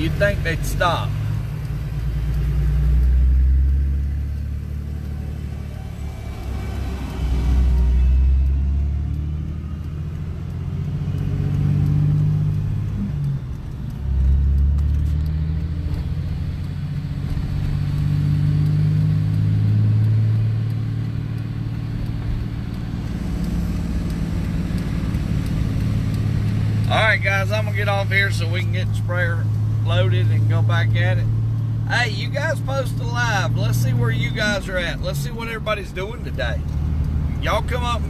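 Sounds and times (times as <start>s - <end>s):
deep rumble of passing traffic: 0.0s - 38.0s
vehicle engine running: 0.0s - 38.0s.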